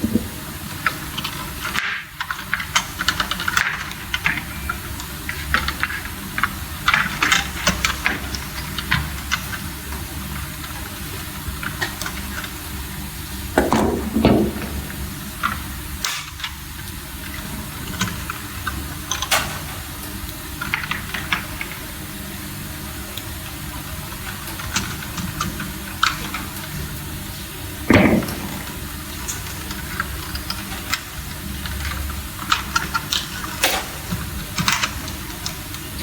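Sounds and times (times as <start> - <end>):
steady low hum: 0.0 - 1.8, 2.9 - 36.0.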